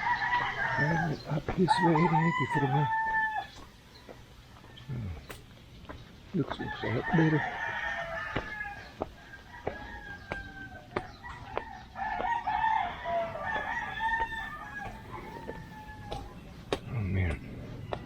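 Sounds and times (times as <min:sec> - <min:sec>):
roosters crowing: 0:00.0 - 0:05.6, 0:06.4 - 0:18.0.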